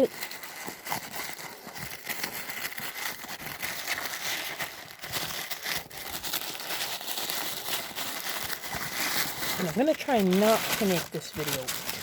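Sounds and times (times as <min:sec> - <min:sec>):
packing material rustling: 0:00.0 - 0:12.0.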